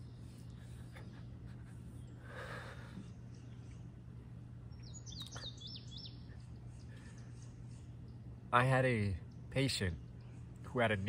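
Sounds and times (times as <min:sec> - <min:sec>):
bird chirping: 0:00.0 - 0:11.0
low hum: 0:00.0 - 0:11.0.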